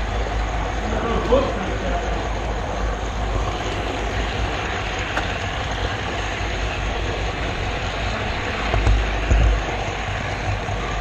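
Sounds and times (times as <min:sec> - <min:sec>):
model train rolling rumble: 0:00.0 - 0:11.0.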